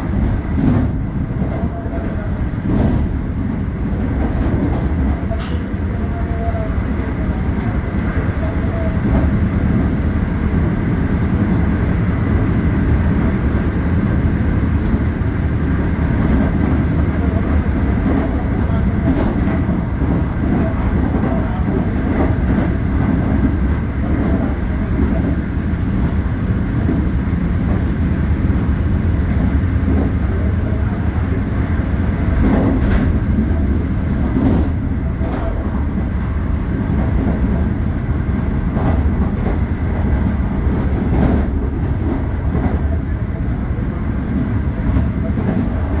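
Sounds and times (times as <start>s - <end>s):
train rumble and hum: 0.0s - 46.0s.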